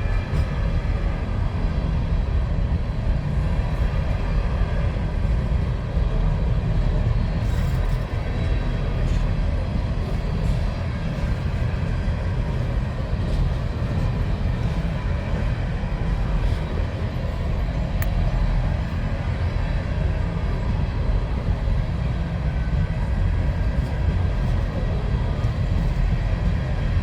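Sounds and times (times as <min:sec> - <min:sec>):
freight train rolling on rails: 0:00.0 - 0:27.0.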